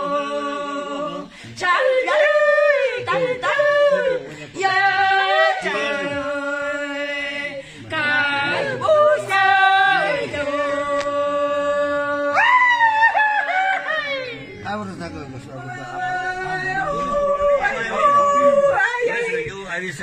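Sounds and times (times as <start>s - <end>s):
unaccompanied person singing: 0.0s - 14.6s, 15.6s - 19.5s.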